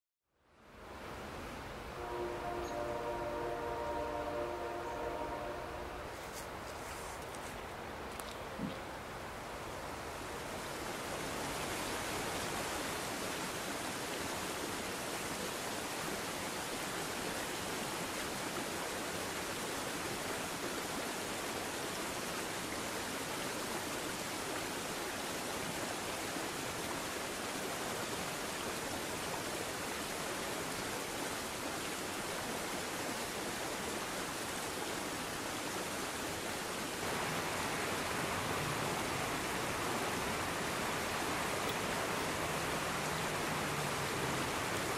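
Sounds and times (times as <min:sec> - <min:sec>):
creek rushing: 0:00.5 - 0:44.9.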